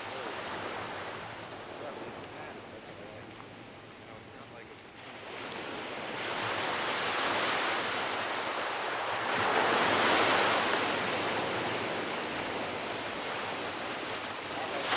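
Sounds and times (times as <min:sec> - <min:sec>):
surf breaking on sandy beach: 0:00.0 - 0:14.9.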